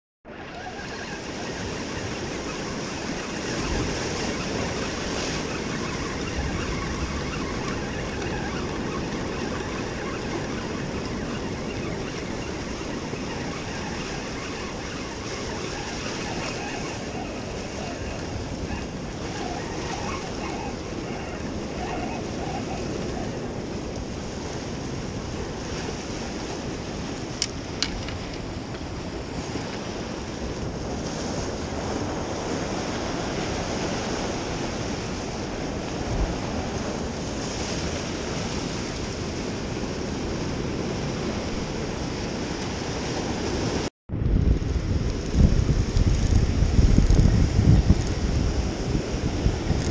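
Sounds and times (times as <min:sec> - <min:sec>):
ocean surf breaking on rocks: 0:00.3 - 0:49.9
wind buffeting microphone: 0:00.3 - 0:49.9.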